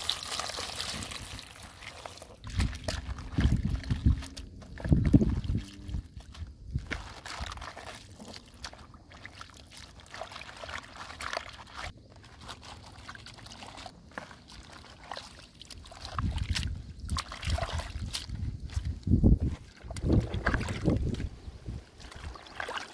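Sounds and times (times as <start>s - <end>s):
water sloshing and splashing: 0.0s - 22.9s.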